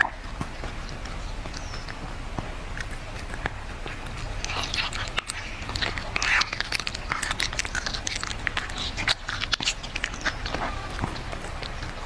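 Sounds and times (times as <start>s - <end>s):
cat crunching food: 0.0s - 12.0s.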